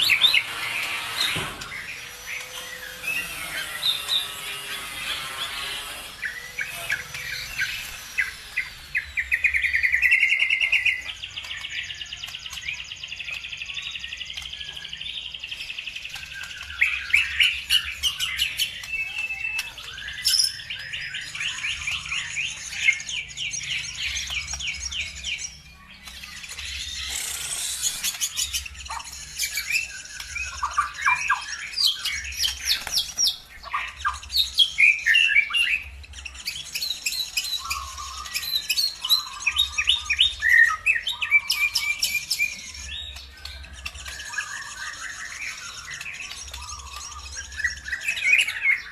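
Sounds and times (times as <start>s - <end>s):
songbirds trilling and chirping: 0.0s - 48.9s.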